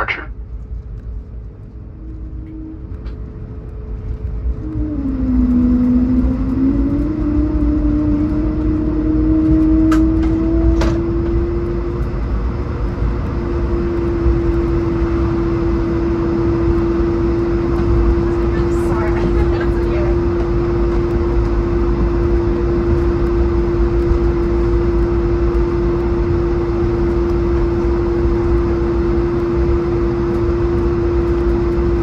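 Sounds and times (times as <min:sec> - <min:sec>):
jet engines rumbling in cabin: 0:00.0 - 0:32.0.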